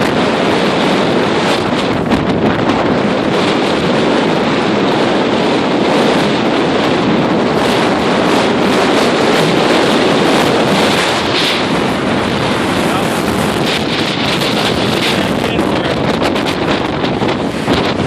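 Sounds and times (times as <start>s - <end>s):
gale-force wind on microphone: 0.0s - 18.0s
lake waves breaking: 0.0s - 18.0s.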